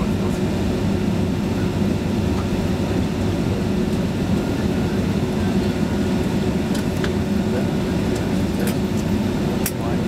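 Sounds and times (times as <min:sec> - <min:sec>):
aircraft cabin rumble and hum: 0:00.0 - 0:10.0.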